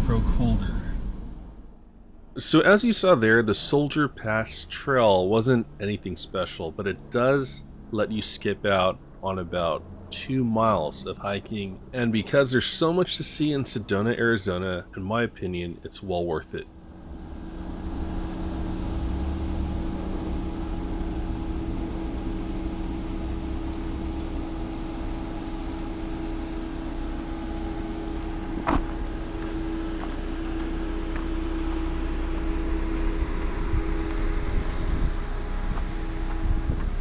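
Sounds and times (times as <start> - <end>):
engine and fan hum: 0.0 - 37.0.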